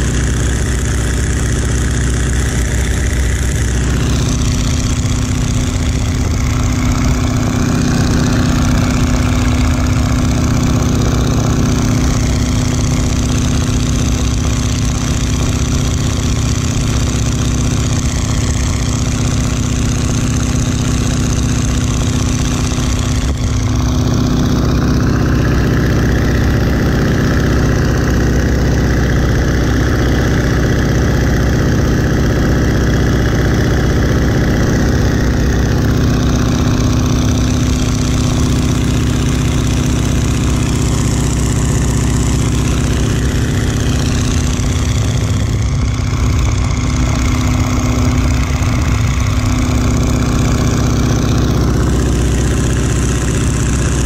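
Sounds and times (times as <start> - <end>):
propeller plane engine: 0.0 - 54.0.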